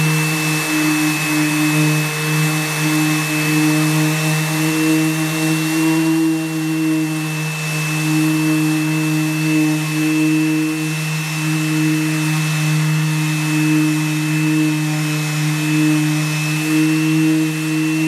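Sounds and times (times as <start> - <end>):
orbital sander motor hum: 0.0 - 18.0
shop vacuum running: 0.0 - 18.0.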